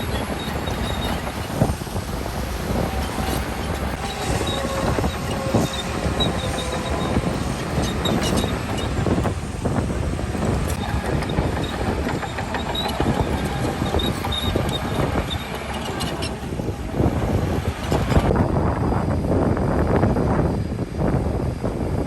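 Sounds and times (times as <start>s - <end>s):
diesel engine running: 0.0s - 18.4s
machinery clanks and rattles: 0.0s - 18.4s.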